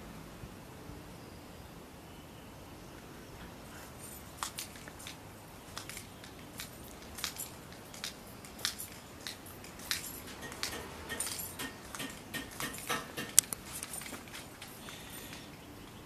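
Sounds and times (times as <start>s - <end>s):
faint irregular clicks: 3.0s - 16.0s.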